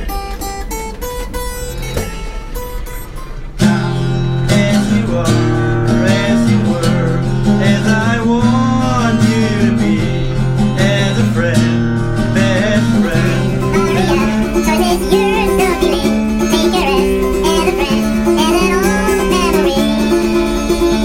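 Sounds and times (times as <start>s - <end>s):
acoustic guitar chords and melody: 0.0s - 21.0s.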